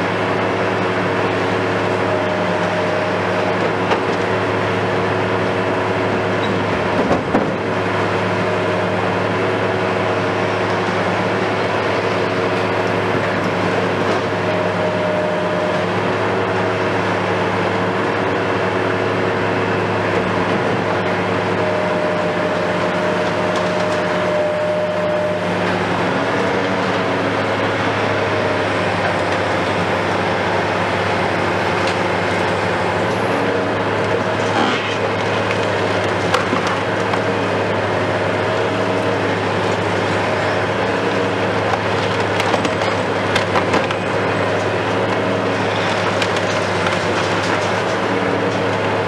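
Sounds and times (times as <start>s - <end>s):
excavator engine and hydraulics: 0.0s - 49.0s.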